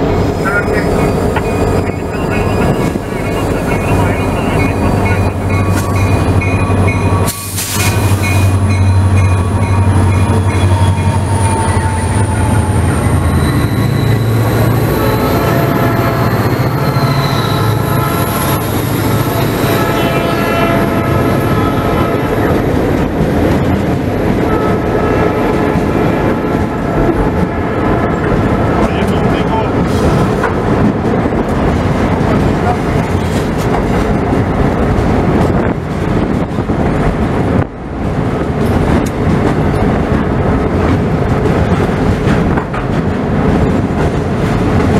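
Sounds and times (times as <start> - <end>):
diesel locomotive engines humming: 0.0 - 44.9
freight car wheels on rail: 0.0 - 44.9.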